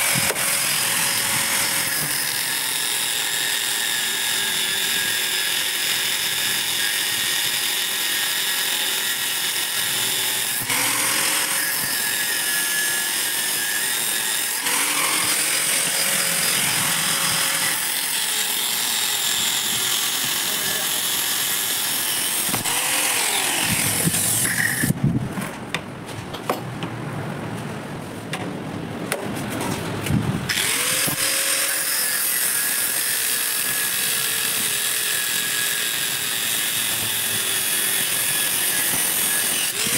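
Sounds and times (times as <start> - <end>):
angle grinder cutting steel: 0.0 - 25.0, 30.5 - 39.9.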